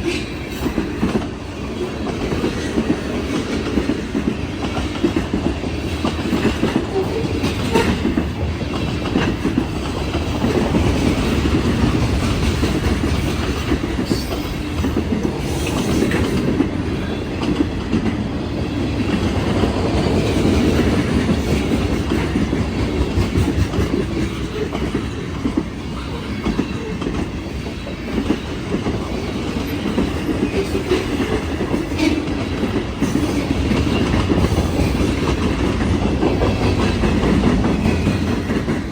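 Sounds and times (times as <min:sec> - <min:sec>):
rail clicks: 0:00.0 - 0:38.9
train wheels rumbling on rails: 0:00.0 - 0:38.9.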